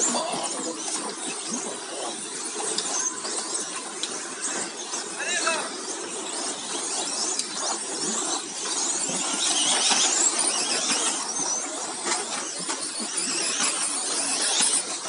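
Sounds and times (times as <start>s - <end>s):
model racing truck motors whining: 0.0s - 15.0s.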